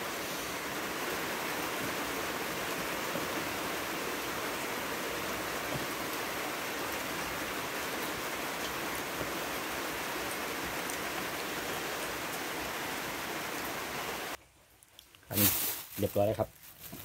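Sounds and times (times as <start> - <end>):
steady rain falling: 0.0 - 14.4, 15.3 - 17.0.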